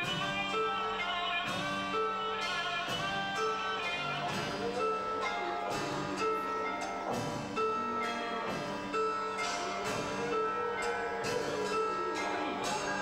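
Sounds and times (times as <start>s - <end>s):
long held tones: 0.0s - 13.0s
plucked string notes: 0.0s - 13.0s.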